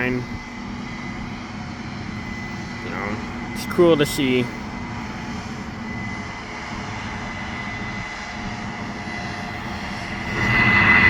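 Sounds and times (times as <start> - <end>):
distant combine harvester drone: 0.0 - 11.0
high whine: 0.0 - 11.0.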